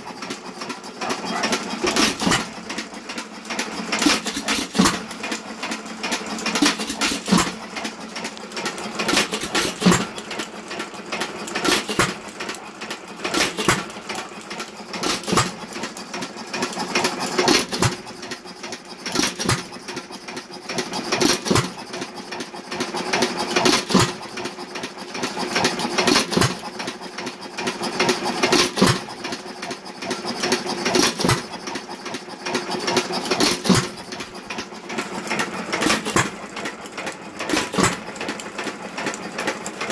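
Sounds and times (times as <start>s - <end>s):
engine firing stroke: 0.0s - 39.9s
engine mechanical clatter: 0.0s - 39.9s.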